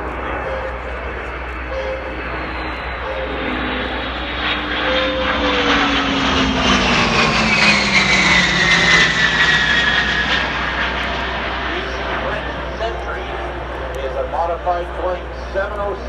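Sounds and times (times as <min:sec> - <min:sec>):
jet flyby with falling whine: 0:00.0 - 0:16.0.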